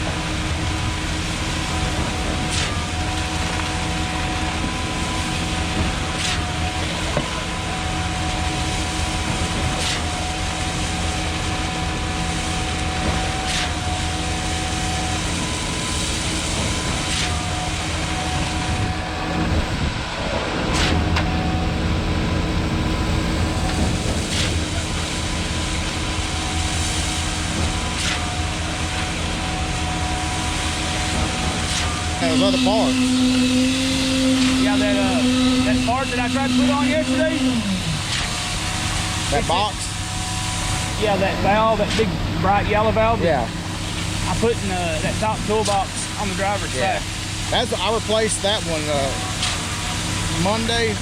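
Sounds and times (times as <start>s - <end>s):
hydraulic whine: 0.0s - 51.0s
truck engine drone: 0.0s - 51.0s.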